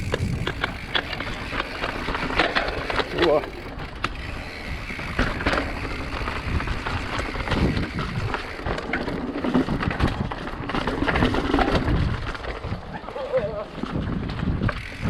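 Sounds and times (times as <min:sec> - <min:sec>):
wind on microphone: 0:00.0 - 0:02.9, 0:03.5 - 0:15.0
bike clicks and knocks: 0:00.0 - 0:15.0
bike tyres on rough ground: 0:00.0 - 0:15.0.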